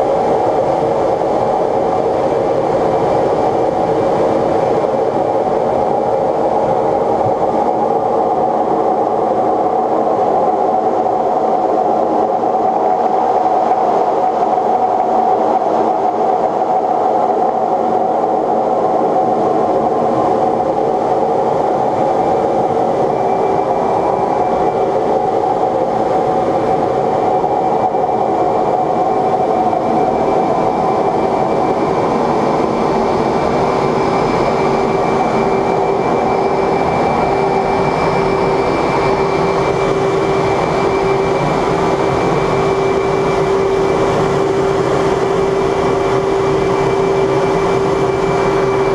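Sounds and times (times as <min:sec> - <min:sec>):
jet engine drone and rushing air: 0:00.0 - 0:48.9.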